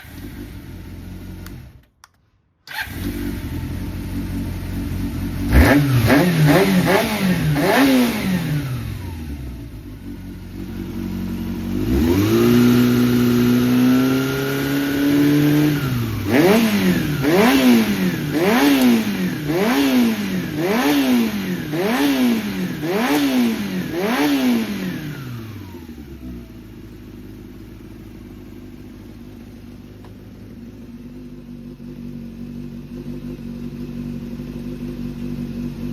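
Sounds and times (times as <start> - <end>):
motorcycle engine revving: 0.0 - 1.9, 2.7 - 35.9.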